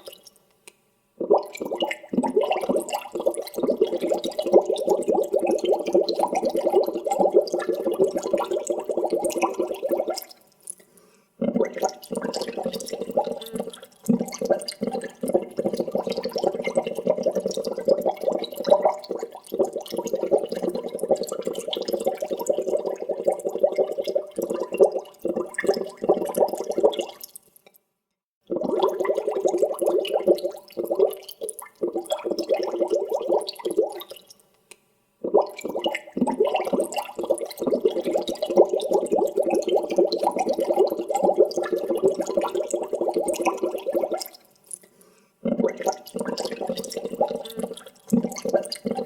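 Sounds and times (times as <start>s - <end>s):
water bubbling: 1.2s - 10.4s, 11.4s - 27.3s, 28.5s - 34.3s, 35.2s - 44.4s, 45.4s - 49.0s.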